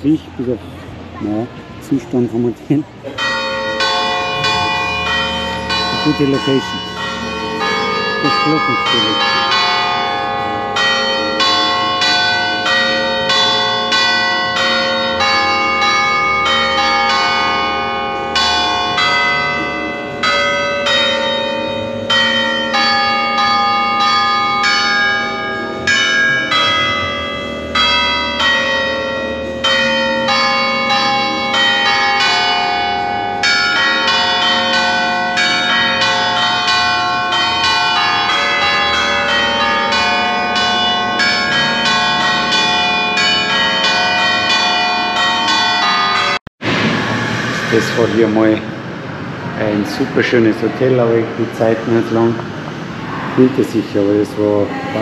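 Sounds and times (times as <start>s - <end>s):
cathedral bells chiming a tune: 2.1s - 48.8s.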